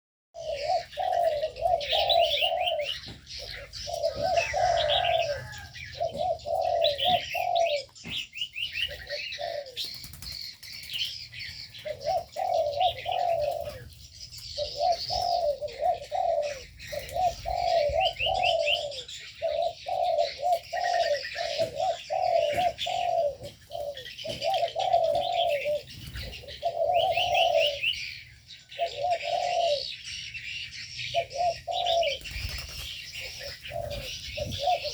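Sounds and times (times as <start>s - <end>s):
doves cooing: 0.4s - 34.9s
small birds chirping and trilling: 0.4s - 34.9s.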